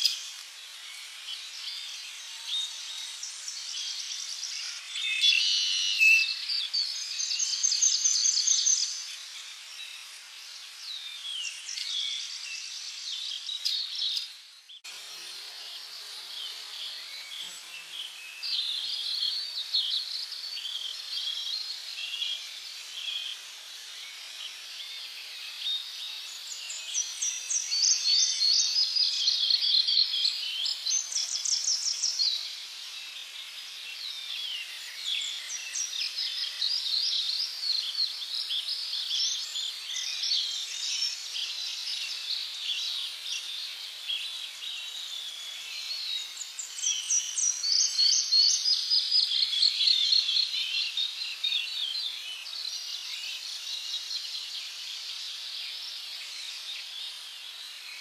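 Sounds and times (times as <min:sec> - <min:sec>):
songbirds chirping: 0:00.0 - 0:58.0
steady high background hiss: 0:00.0 - 0:58.0.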